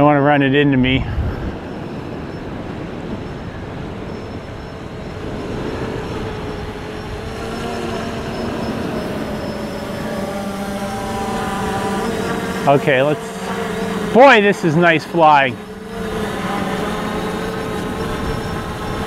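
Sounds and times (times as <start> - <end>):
drone propellers humming: 0.0 - 19.0
gusty wind noise: 0.0 - 19.0.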